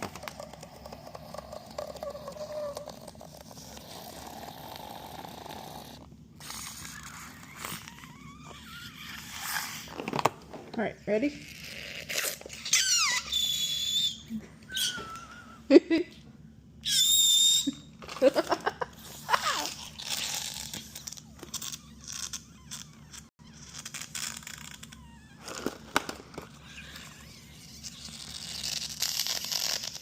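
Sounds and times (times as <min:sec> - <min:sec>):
balloon squealing: 0:00.0 - 0:10.0, 0:11.4 - 0:15.7, 0:16.8 - 0:17.9, 0:19.0 - 0:30.0
balloon squeaks: 0:00.0 - 0:10.2, 0:11.4 - 0:15.5, 0:16.8 - 0:17.8, 0:19.0 - 0:30.0.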